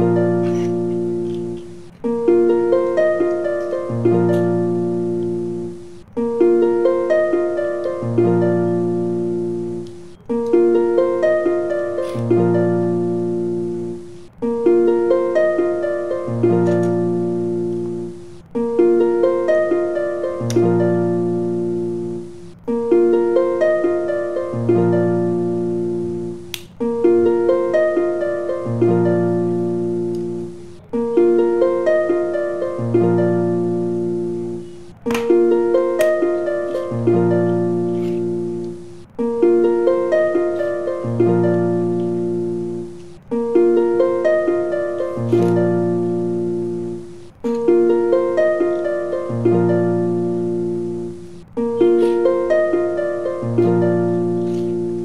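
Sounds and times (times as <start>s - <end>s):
plucked-string melody: 0.0s - 55.0s.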